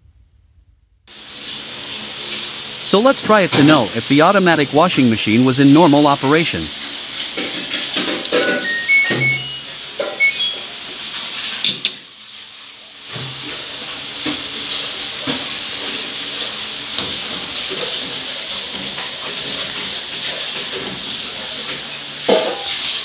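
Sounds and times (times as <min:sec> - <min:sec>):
water rushing into washing machine: 0:01.1 - 0:23.0.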